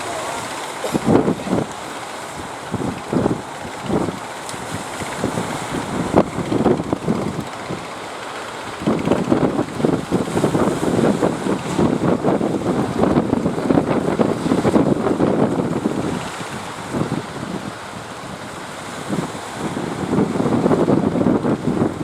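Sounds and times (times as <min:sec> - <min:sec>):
sea surf: 0:00.0 - 0:22.0
wind buffeting microphone: 0:00.0 - 0:22.0.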